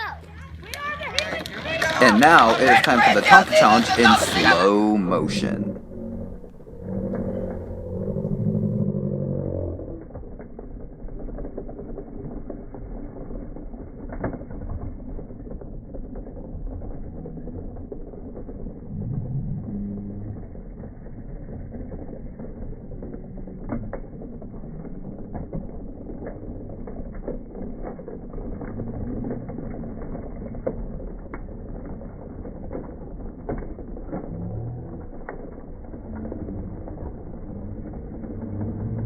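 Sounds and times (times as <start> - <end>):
toy truck rattling over pavement: 0.0 - 39.0.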